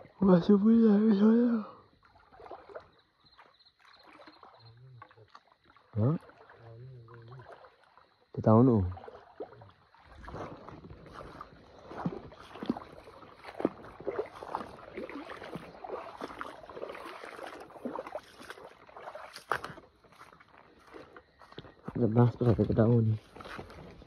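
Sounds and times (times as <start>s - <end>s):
feet splashing in shallow water: 0.0s - 24.0s.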